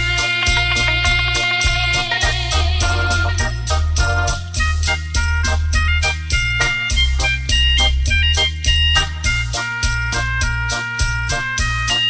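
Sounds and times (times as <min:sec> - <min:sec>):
bass line: 0:00.0 - 0:12.0
drum machine beat: 0:00.0 - 0:12.0
electronic organ melody: 0:00.0 - 0:12.0.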